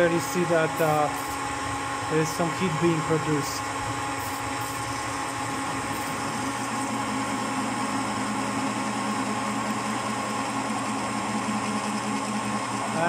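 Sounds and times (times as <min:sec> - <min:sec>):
drill press humming and whining: 0:00.0 - 0:13.0
drill cutting through metal: 0:02.2 - 0:13.0.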